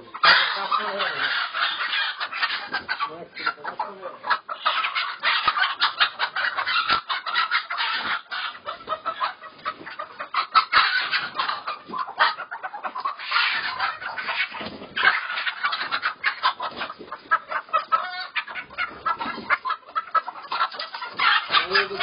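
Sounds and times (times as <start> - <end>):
hens clucking and squawking: 0.0 - 22.0.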